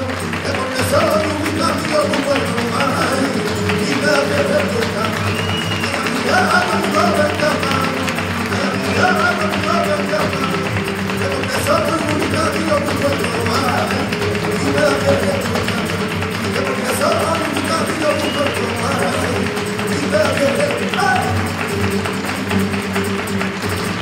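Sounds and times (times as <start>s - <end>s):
man singing: 0.0s - 23.2s
acoustic flamenco guitar: 0.0s - 24.0s
dancer's footwork taps: 0.0s - 24.0s
hand-clapping: 0.0s - 24.0s.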